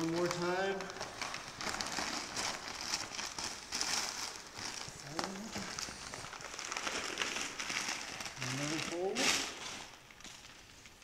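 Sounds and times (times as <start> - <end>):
packing paper rustling: 0.0 - 11.0.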